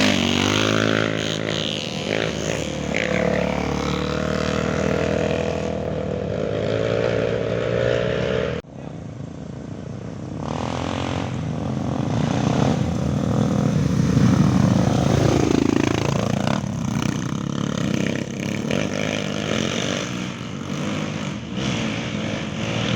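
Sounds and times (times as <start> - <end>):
motorcycle passing by: 0.0 - 8.6, 9.9 - 22.9
motorcycle engines revving: 0.0 - 22.9.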